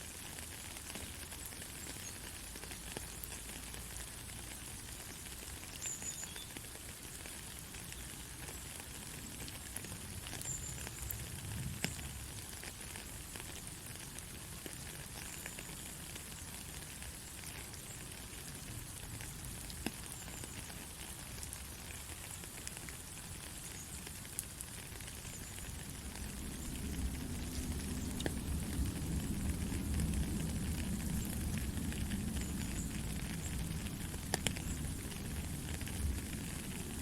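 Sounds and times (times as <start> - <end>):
rain falling in forest: 0.0 - 37.0.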